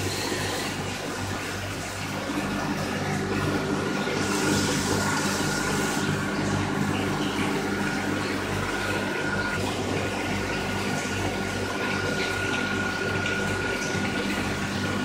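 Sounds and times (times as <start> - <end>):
water pump humming: 0.0 - 15.0
water splashing in pool: 0.0 - 15.0.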